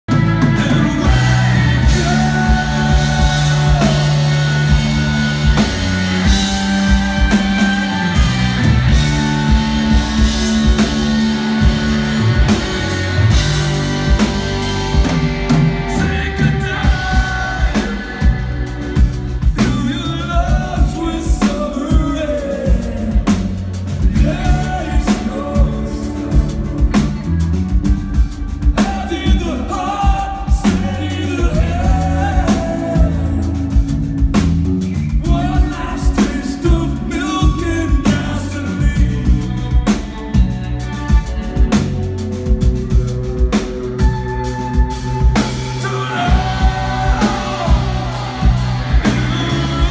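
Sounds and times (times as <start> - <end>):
bass guitar: 0.0 - 49.9
man singing: 0.1 - 13.5, 15.7 - 40.4, 45.3 - 49.9
distorted electric guitars: 0.1 - 49.9
drum kit beat: 0.1 - 49.9.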